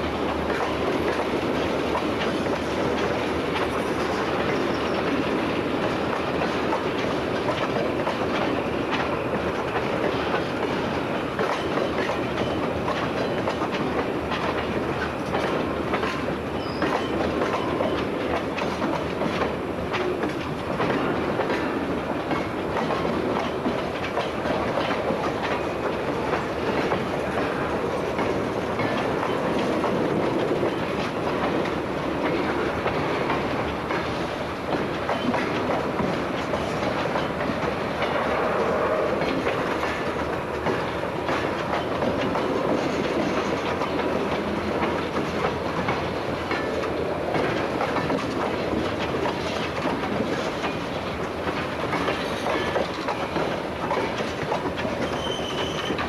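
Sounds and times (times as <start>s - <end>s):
rumble of train cars: 0.0s - 56.0s
train wheels clicking over rail joints: 0.0s - 56.0s.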